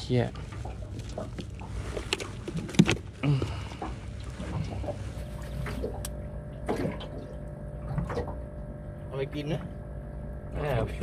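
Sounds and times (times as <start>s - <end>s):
low hum of boat: 0.0s - 11.0s.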